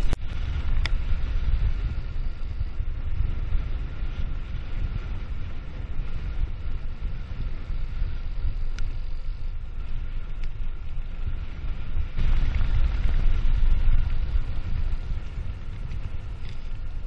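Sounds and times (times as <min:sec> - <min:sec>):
bicycle ticks and rattles: 0:00.0 - 0:17.0
tyre rumble on asphalt: 0:00.0 - 0:17.0
wind rushing over microphone: 0:00.0 - 0:17.0.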